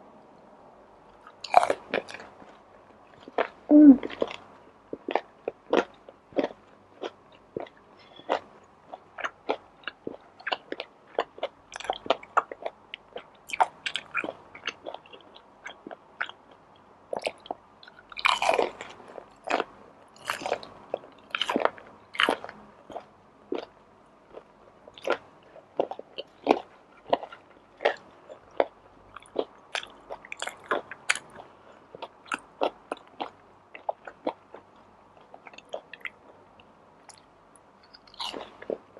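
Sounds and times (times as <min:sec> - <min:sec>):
chewing with mouth clicks: 0:04.1 - 0:23.7, 0:24.3 - 0:37.2.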